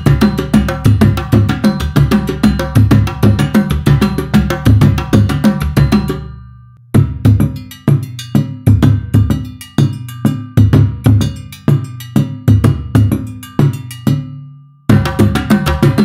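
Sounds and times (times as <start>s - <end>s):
hand drums playing rhythm: 0.0s - 6.3s, 6.9s - 16.0s.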